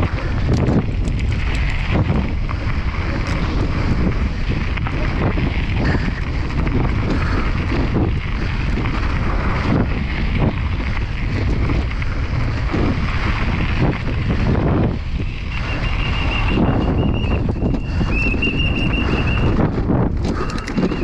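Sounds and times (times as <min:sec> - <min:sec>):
mountain bike clattering on rough ground: 0:00.0 - 0:21.0
wind on microphone: 0:00.0 - 0:21.0.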